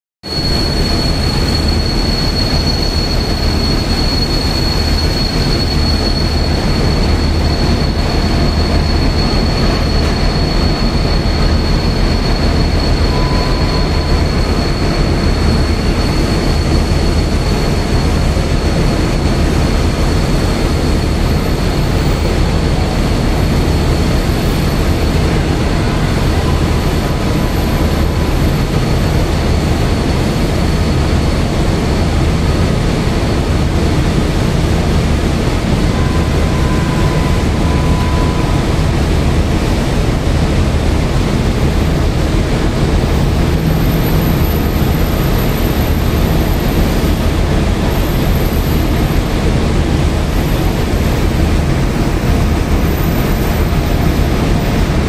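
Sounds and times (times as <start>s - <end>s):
train coaches rumbling: 0.2s - 55.0s
continuous high whine: 0.3s - 55.0s.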